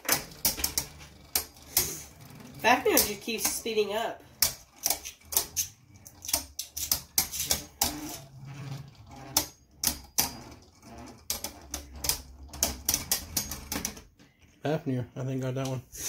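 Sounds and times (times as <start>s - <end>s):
plastic spinning tops clicking: 0.0s - 8.4s, 9.1s - 14.0s
whir of spinning tops: 0.0s - 13.8s.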